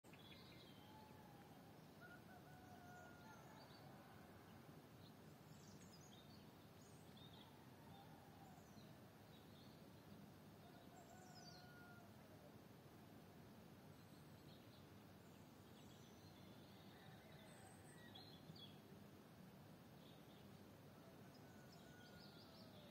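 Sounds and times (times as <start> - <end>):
steady low hiss: 0.1 - 22.9.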